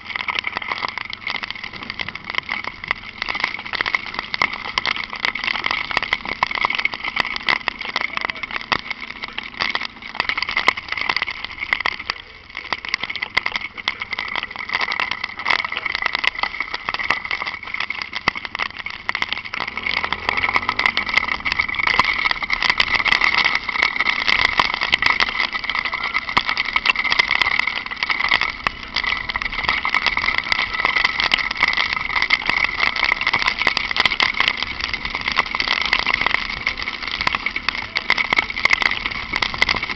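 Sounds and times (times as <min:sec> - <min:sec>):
faint motorcycle engine: 0:00.0 - 0:39.9
raindrops ticking on camera: 0:00.0 - 0:39.9.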